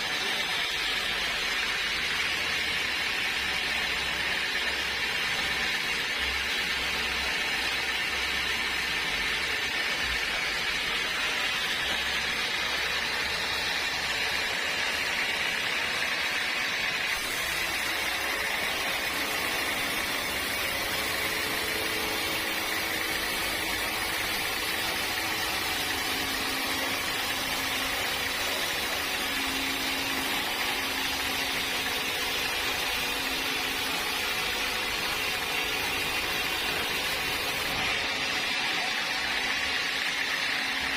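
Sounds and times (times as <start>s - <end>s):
saw cutting through log: 0.0s - 40.9s.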